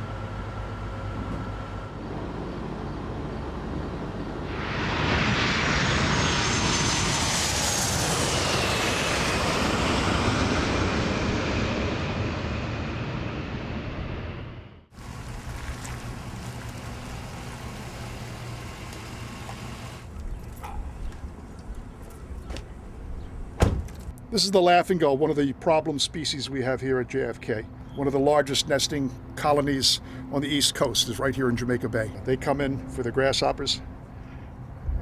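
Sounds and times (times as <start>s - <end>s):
jet airliner roar and whine: 0.0s - 24.2s, 26.4s - 35.0s.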